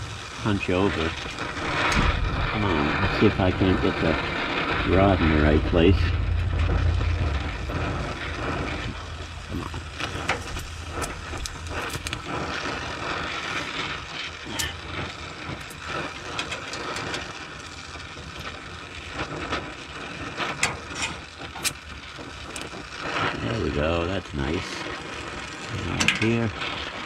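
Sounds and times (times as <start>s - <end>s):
arc welder crackling and popping: 0.0s - 27.0s.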